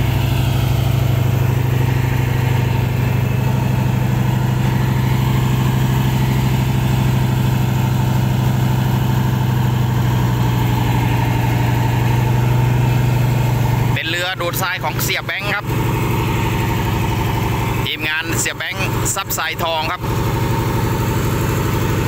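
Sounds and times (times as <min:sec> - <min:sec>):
large engine low hum: 0:00.0 - 0:22.0.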